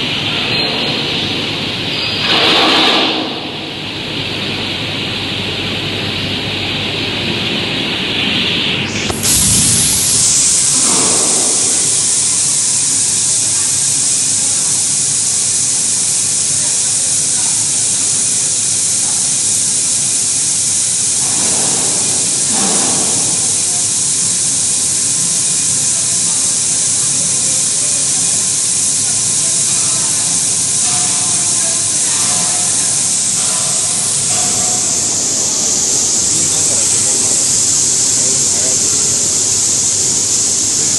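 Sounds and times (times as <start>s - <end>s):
blasting machine hissing: 0.0s - 40.9s.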